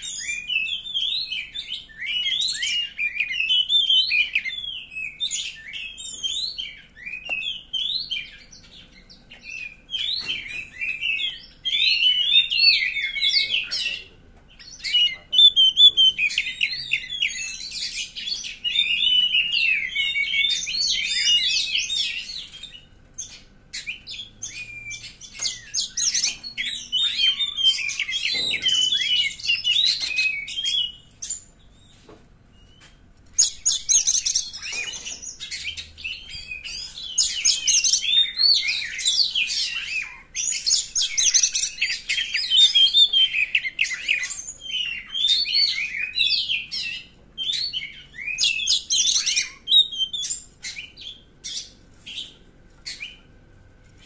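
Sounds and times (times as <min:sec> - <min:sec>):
bird singing whistles and chatter: 0:00.0 - 0:53.3.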